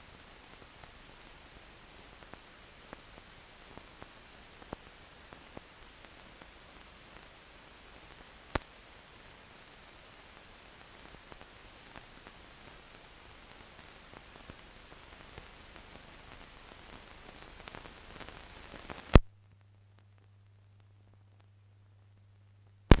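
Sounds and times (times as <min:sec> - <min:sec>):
crackles and clicks: 0:00.0 - 0:23.0
faint low hum: 0:00.0 - 0:23.0
film soundtrack hiss: 0:00.0 - 0:23.0.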